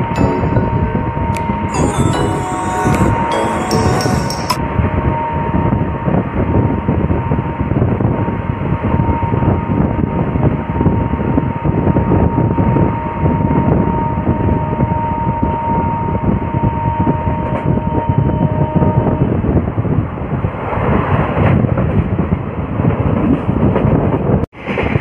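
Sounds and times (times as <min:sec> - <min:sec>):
wheel-on-rail noise and wind: 0:04.6 - 0:25.0.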